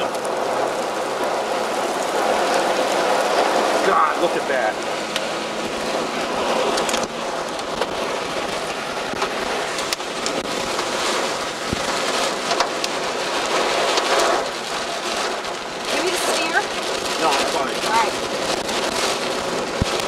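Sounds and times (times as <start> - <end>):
heavy rain on vehicle roof: 0.0 - 20.0.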